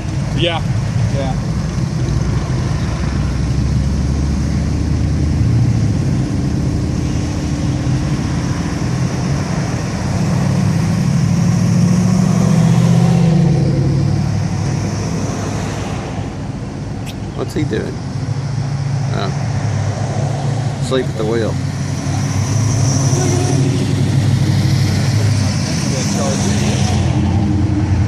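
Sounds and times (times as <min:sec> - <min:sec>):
cars passing at low speed: 0:00.0 - 0:28.0.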